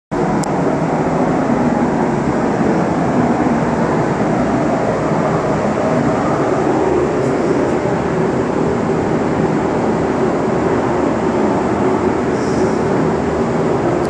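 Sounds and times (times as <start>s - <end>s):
ventilation fans rushing air: 0.1s - 14.0s.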